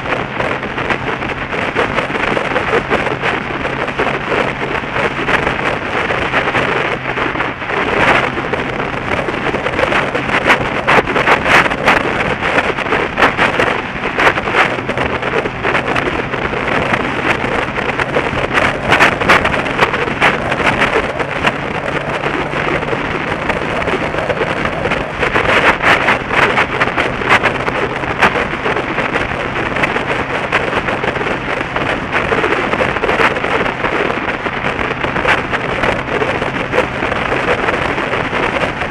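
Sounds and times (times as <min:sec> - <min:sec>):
engine and tyres drone: 0:00.0 - 0:38.9
wind buffeting microphone: 0:00.0 - 0:38.9.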